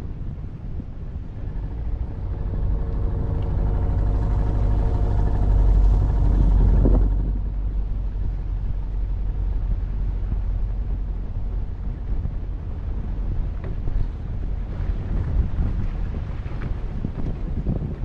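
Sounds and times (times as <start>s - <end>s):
wind rumble on microphone: 0.0s - 18.0s
boat motor running: 0.7s - 18.0s.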